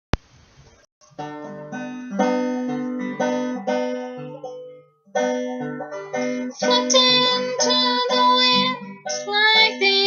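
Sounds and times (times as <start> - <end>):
plucked string instrument: 1.0 - 10.0.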